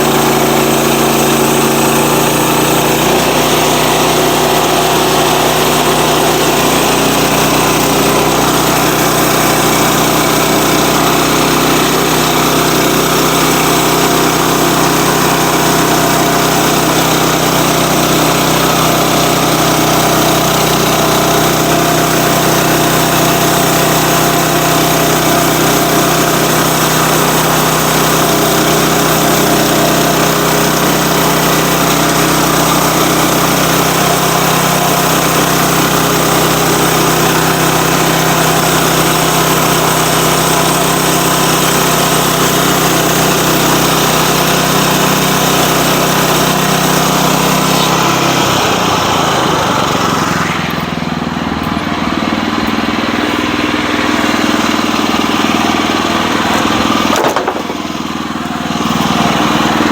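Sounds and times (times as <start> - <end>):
saw cutting through log: 0.0 - 59.9
sawmill engine running: 0.0 - 59.9.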